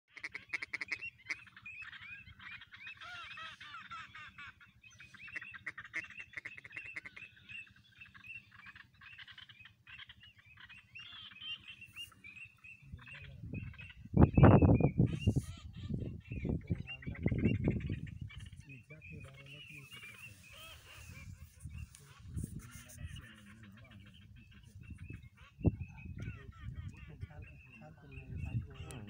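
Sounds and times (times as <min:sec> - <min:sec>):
ducks quacking: 0:00.1 - 0:29.0.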